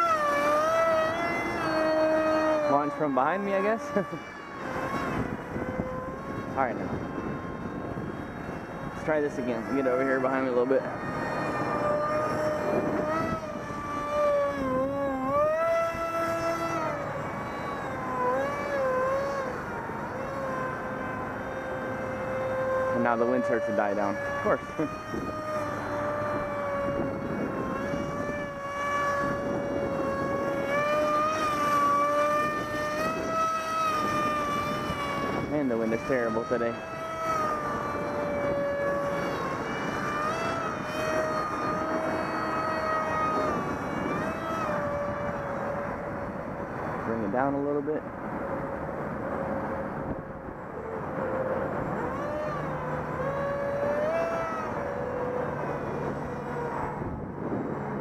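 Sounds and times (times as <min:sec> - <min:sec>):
electric motor and propeller whine: 0:00.0 - 0:58.0
wind rumble on microphone: 0:00.0 - 0:58.0.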